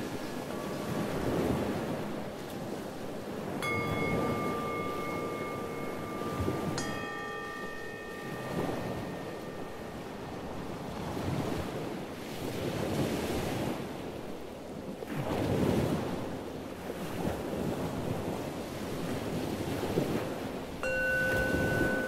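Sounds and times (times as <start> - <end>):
ocean waves washing in: 0.0 - 22.0.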